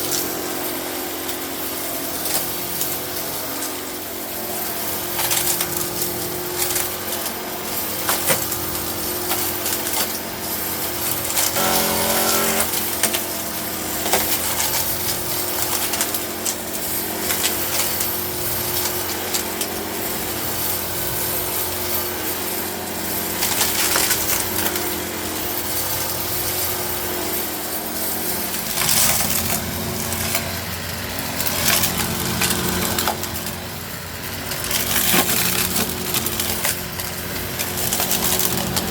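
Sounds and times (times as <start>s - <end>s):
vacuum cleaner motor hum: 0.0s - 38.9s.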